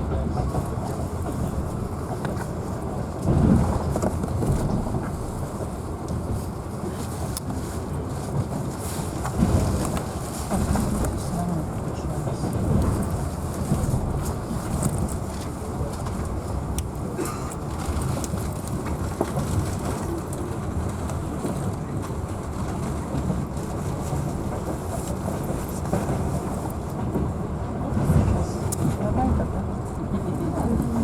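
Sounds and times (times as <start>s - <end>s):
train wheels rumbling: 0.0s - 31.0s.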